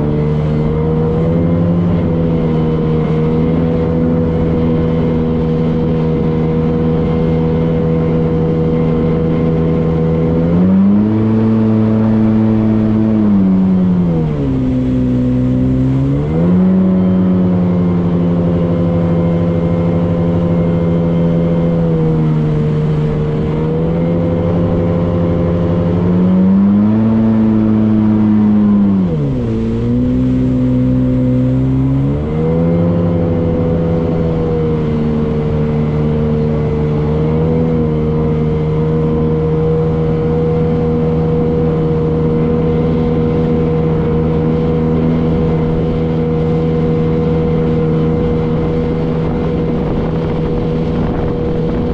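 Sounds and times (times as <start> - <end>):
motorboat engine revving: 0.0 - 51.9.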